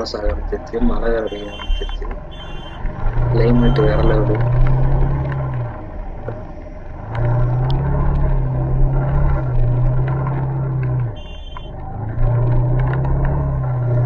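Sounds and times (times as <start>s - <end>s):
motorcycle engine running: 0.7s - 14.0s.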